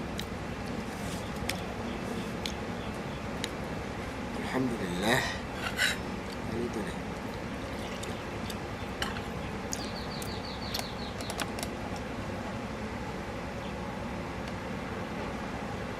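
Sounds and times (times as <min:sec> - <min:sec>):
steady background hiss: 0:00.0 - 0:15.9.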